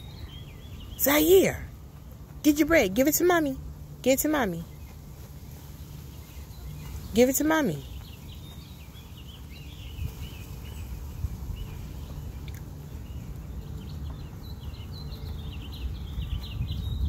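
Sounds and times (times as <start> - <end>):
low outdoor rumble: 0.0 - 17.0
songbirds chirping: 0.0 - 17.0.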